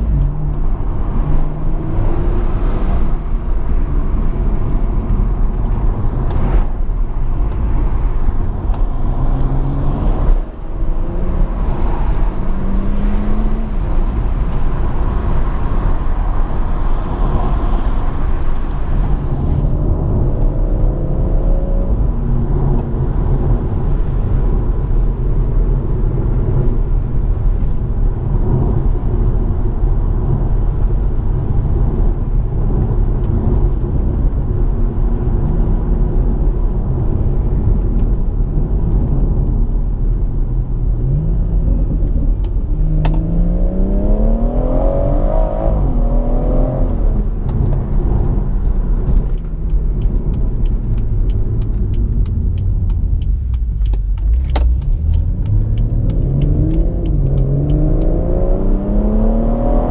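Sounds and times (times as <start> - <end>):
car engine drone in cabin: 0.0 - 59.9.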